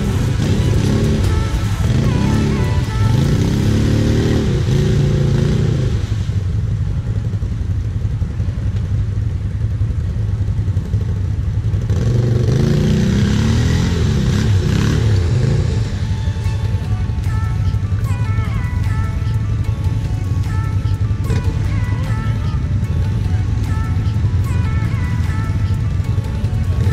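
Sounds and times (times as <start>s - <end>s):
quad engine revving: 0.0s - 6.3s, 10.8s - 26.9s
low engine hum: 0.0s - 26.9s.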